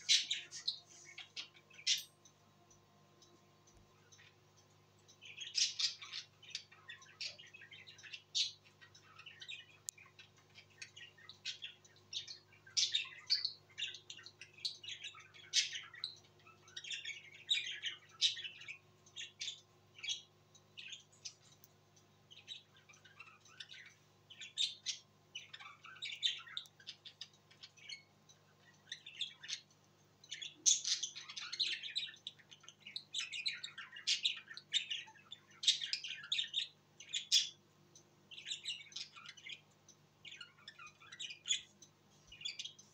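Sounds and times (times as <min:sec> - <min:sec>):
budgerigars chirping and squawking: 0:00.0 - 0:02.1, 0:05.1 - 0:21.5, 0:22.3 - 0:37.6, 0:38.3 - 0:41.7.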